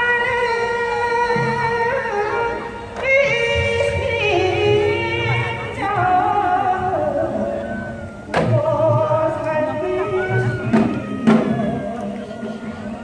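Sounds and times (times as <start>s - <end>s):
woman singing folk song: 0.0s - 12.8s
traditional instrumental accompaniment: 0.0s - 13.0s.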